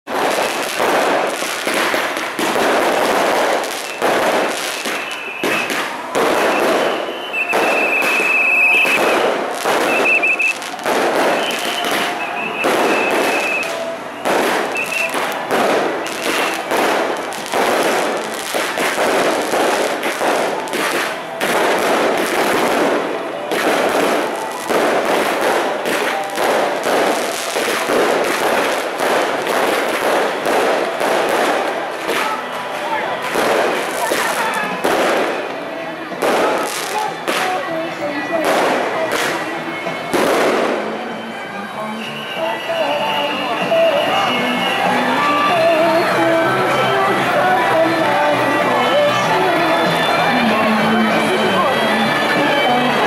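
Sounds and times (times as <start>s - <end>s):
firecrackers crackling: 0.0s - 53.0s.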